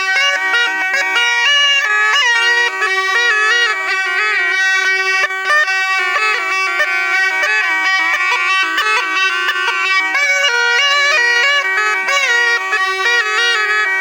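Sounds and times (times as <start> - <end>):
double reed pipe melody: 0.0 - 14.0.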